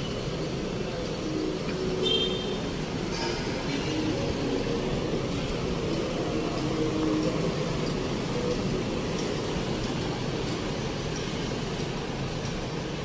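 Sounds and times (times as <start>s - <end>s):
traffic passing: 0.0s - 13.0s.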